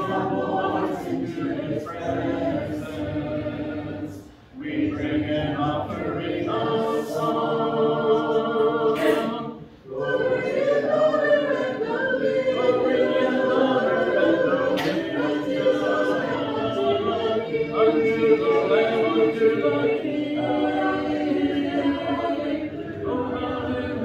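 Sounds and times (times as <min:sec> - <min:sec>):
congregation singing a hymn: 0:00.0 - 0:24.0.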